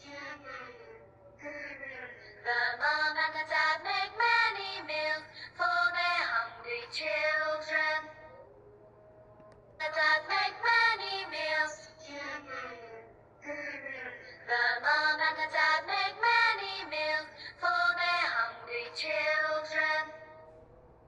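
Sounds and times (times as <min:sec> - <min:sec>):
person singing children's song: 0:00.0 - 0:08.3, 0:09.8 - 0:20.4.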